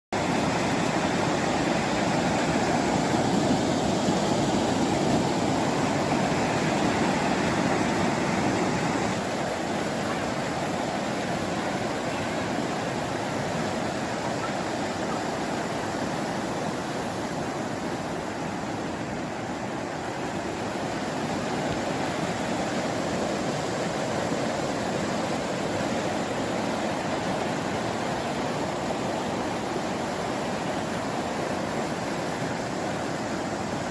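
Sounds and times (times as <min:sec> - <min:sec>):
river in flood roaring: 0:00.2 - 0:33.9.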